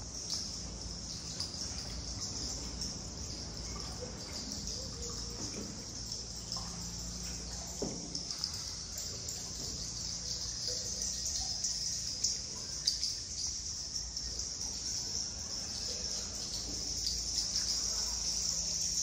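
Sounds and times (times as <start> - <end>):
insects buzzing drone: 0.0 - 19.0.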